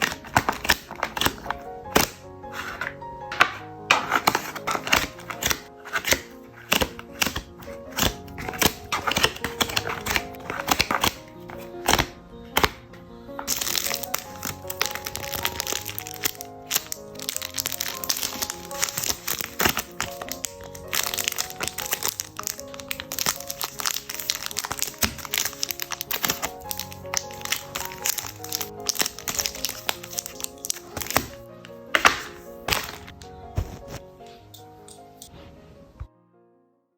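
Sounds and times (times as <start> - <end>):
plastic packaging crinkling: 0.0 - 12.8, 13.4 - 34.0
background music: 0.0 - 36.9.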